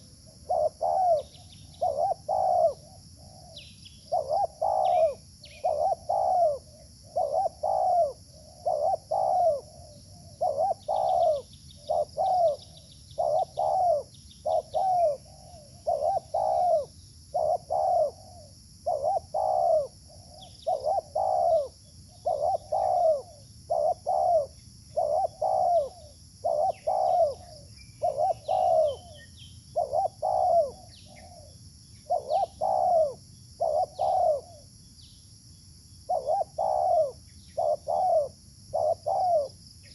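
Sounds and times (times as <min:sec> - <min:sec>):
dove cooing: 0:00.0 - 0:34.7, 0:36.1 - 0:39.9.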